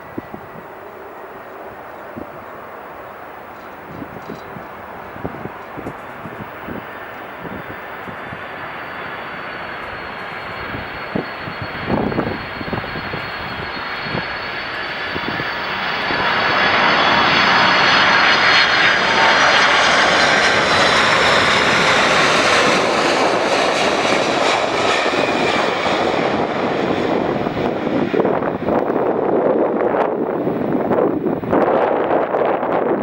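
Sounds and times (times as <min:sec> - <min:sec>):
jet engines rumbling and whining: 0:00.0 - 0:33.0.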